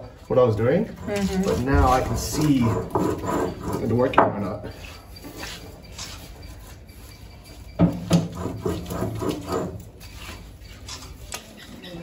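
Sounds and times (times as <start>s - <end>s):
stone grinding on stone: 0.9s - 11.3s.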